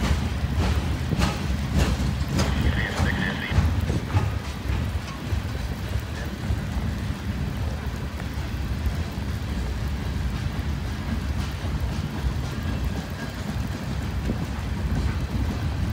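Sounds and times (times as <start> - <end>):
train wheels rumbling on rails: 0.0 - 15.9.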